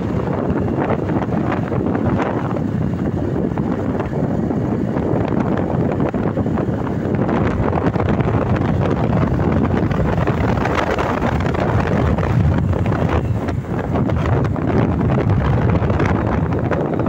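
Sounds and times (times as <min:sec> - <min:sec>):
motorbike noise: 0:00.0 - 0:17.0
wind buffeting microphone: 0:00.0 - 0:17.0.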